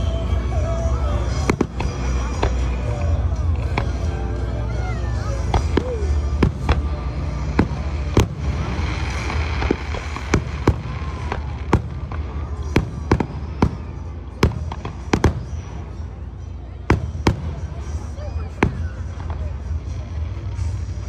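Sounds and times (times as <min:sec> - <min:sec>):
fireworks bangs: 0:00.0 - 0:04.4, 0:05.4 - 0:21.0
steady low rumble: 0:00.0 - 0:21.0.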